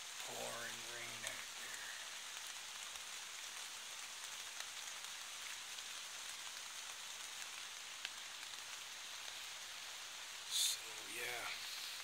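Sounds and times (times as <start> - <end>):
pouring rain: 0.0 - 12.0
raindrop ticks: 0.0 - 12.0.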